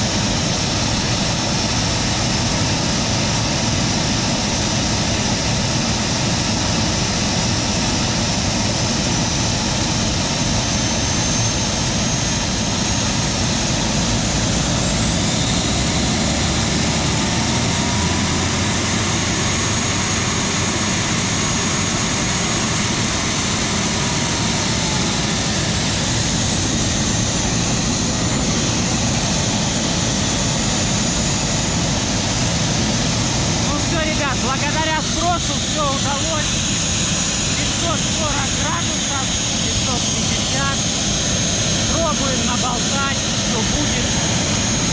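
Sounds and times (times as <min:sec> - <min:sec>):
jet engine roar: 0:00.0 - 0:44.9
turbine whine: 0:00.0 - 0:44.9.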